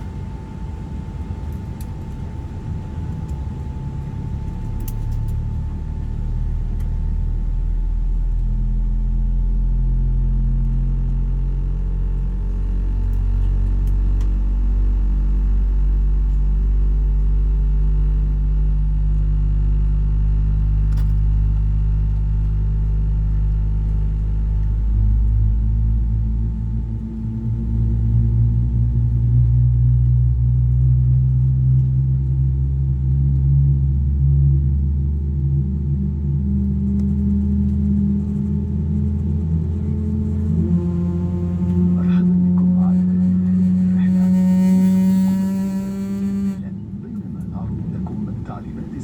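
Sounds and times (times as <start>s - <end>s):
airplane cabin rumble and drone: 0.0s - 49.0s
humming tones shifting in pitch: 0.0s - 49.0s.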